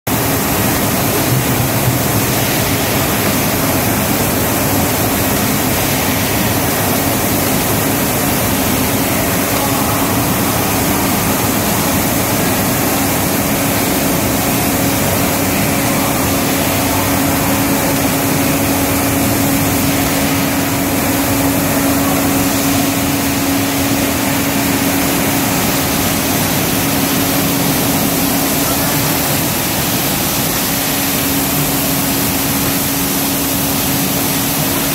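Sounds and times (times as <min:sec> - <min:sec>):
paint sprayer hissing: 0:00.1 - 0:34.9.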